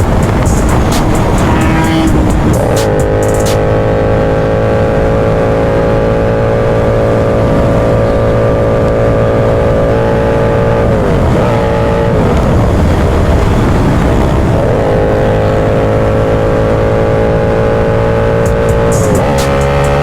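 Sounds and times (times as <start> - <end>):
motorcycle engine at high revs: 0.0 - 20.0
wind and road noise: 0.0 - 20.0.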